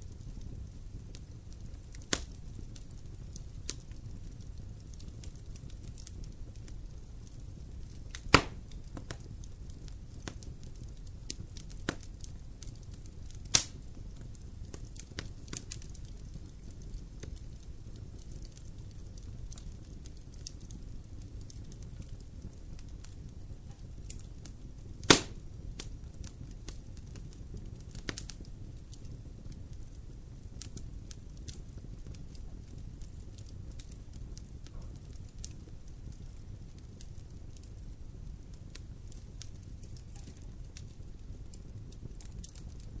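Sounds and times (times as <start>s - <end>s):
loud sharp pops of fire: 0.0s - 43.0s
low rumble of flames: 0.0s - 43.0s
wood fire crackling: 0.0s - 43.0s.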